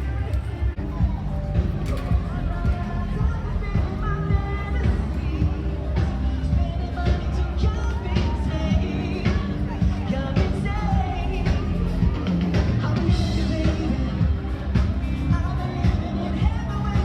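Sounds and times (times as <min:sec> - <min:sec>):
loud rock music with singing: 0:00.0 - 0:17.0.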